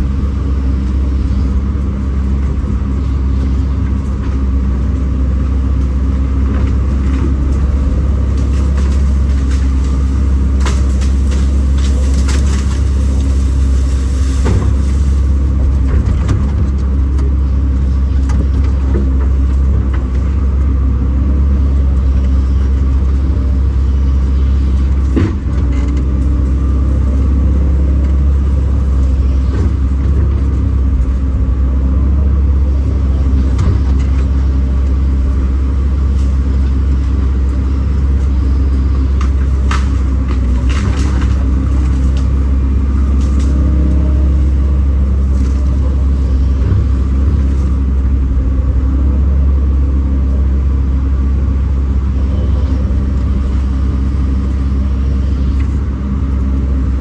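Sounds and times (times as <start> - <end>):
excavator diesel engine droning: 0.0 - 57.0.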